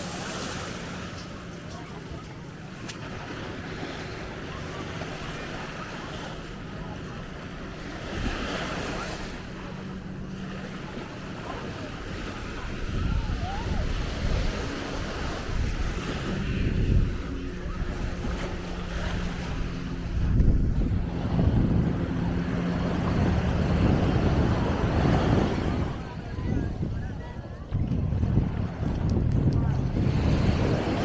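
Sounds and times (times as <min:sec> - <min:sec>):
ocean surf on beach: 0:00.0 - 0:31.0
wind buffeting microphone: 0:00.0 - 0:31.0.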